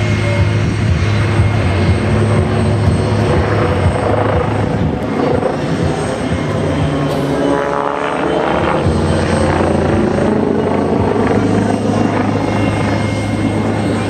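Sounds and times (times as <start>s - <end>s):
helicopter rotor and engines: 0.0s - 14.0s.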